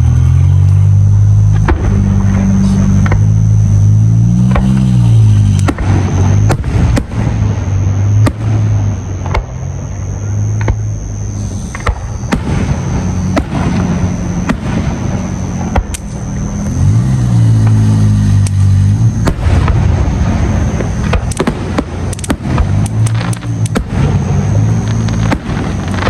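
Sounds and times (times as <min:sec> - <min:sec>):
low drone: 0:00.0 - 0:26.0
fireworks bangs and crackles: 0:00.6 - 0:26.0.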